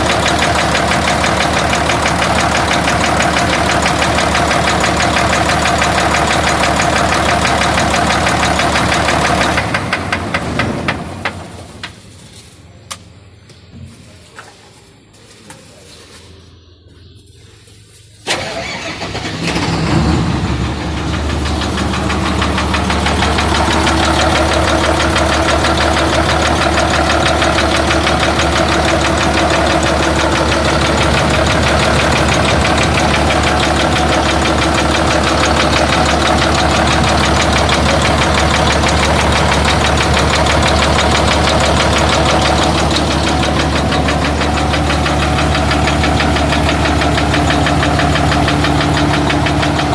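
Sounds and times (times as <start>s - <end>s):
diesel engine starting and running: 0.0s - 13.8s, 16.5s - 49.9s.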